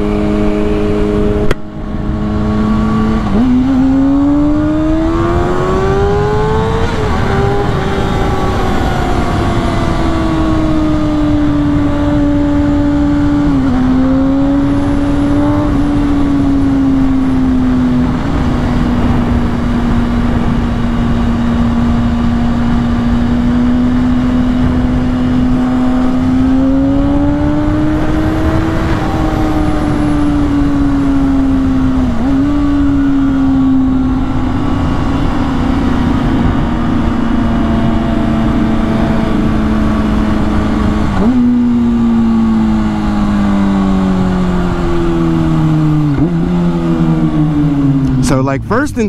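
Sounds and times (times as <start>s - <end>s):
motorcycle engine at high revs: 0.0s - 49.0s.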